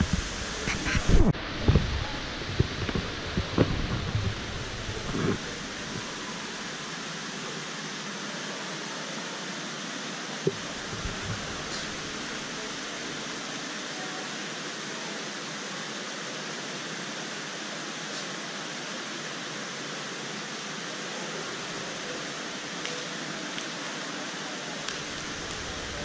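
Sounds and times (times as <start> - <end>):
shopping mall background hiss: 0.0 - 26.0.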